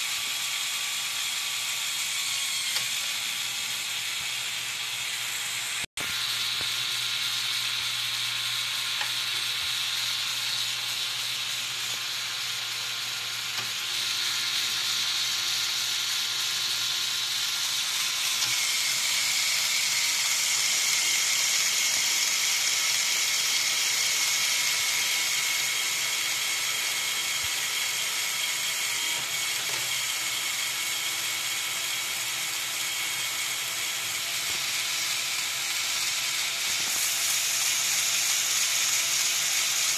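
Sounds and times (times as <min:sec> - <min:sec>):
toy motor and gears whirring: 0:00.0 - 0:39.9.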